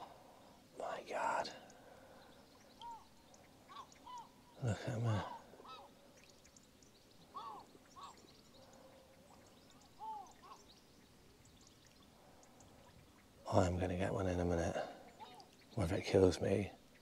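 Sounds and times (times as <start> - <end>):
short bird calls: 0.0 - 13.8, 14.8 - 15.8.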